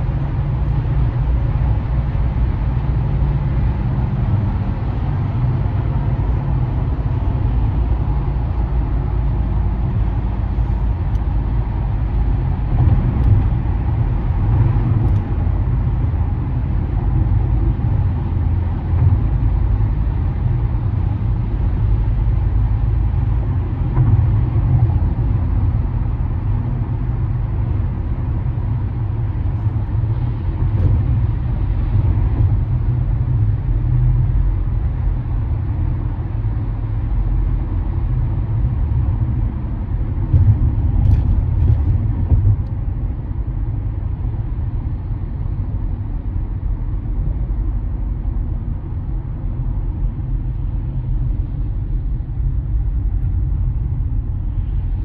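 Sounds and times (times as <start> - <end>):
car road rumble from inside: 0.0 - 55.0.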